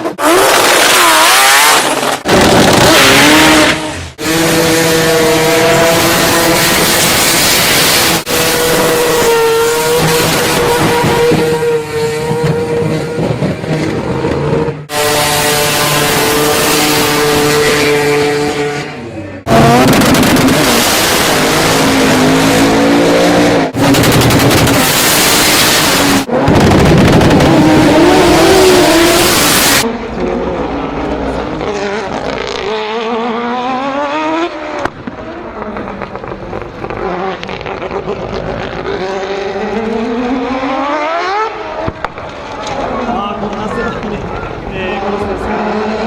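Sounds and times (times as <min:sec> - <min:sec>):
rotary car engine revving: 0:00.0 - 0:46.0.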